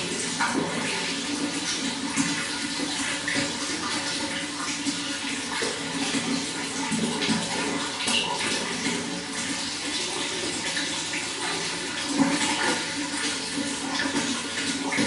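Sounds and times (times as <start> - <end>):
running water splashing and gurgling: 0.0 - 15.0.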